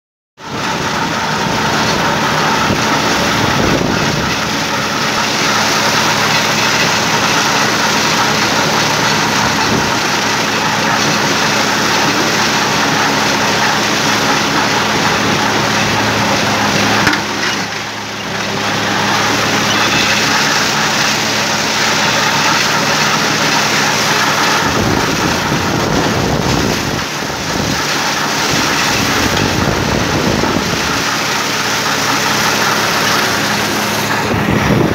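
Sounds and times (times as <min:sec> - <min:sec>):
drum mower spinning: 0:00.4 - 0:34.9
tractor engine running under load: 0:00.4 - 0:34.9.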